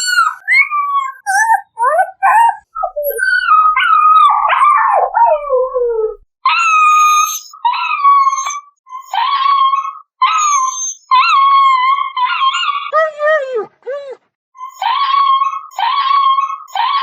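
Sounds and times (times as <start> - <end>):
dog yelping in pain: 0.0 - 17.0.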